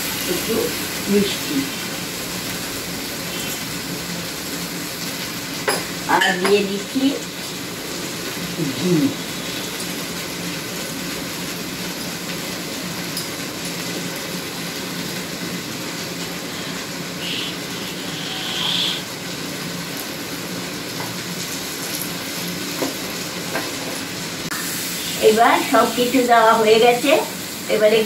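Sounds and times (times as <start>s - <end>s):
dal cooking hiss: 0.0s - 28.0s.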